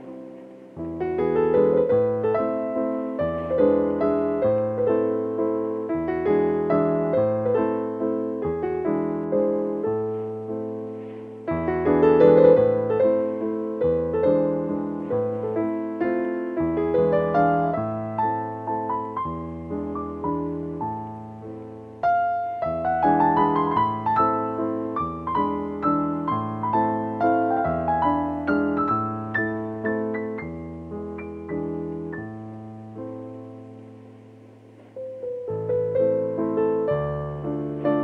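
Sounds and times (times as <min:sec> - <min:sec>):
solo piano music: 0:00.0 - 0:38.0.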